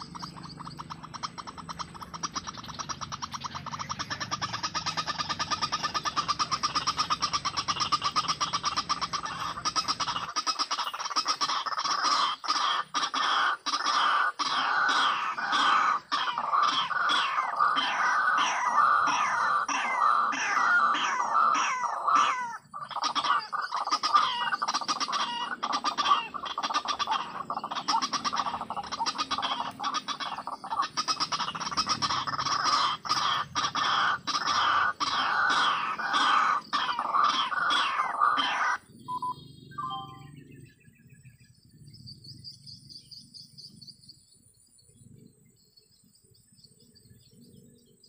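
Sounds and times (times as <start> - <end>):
bird calling repeated notes: 0.0 - 40.9.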